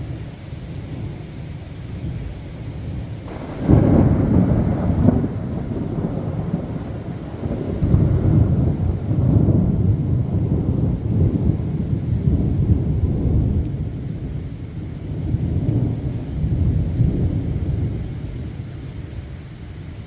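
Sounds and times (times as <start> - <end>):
rain falling: 0.0 - 20.0
rolling thunder: 0.0 - 20.0.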